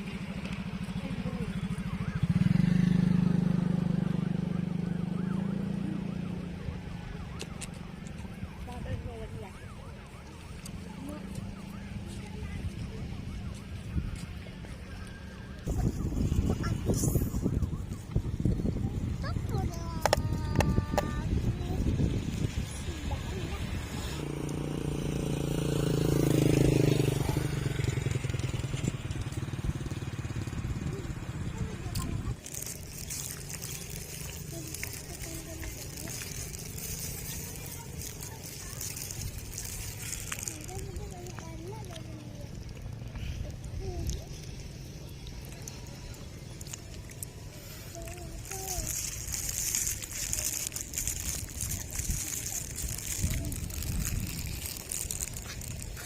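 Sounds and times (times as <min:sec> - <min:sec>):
engine running: 0:10.8 - 0:56.0.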